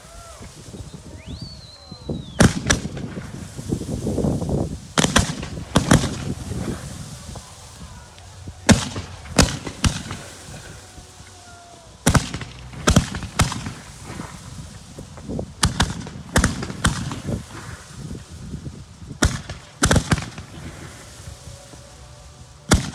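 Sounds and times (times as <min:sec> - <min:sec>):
firework shells bursting: 0:00.1 - 0:22.9.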